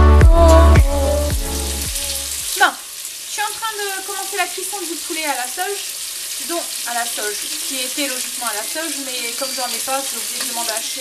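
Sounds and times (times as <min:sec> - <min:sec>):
chicken sizzling in frying pan: 0:01.4 - 0:11.0.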